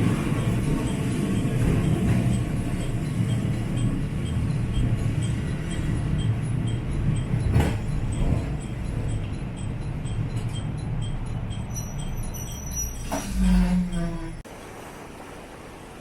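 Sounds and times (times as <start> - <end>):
diesel railcar rumbling: 0.0 - 14.5.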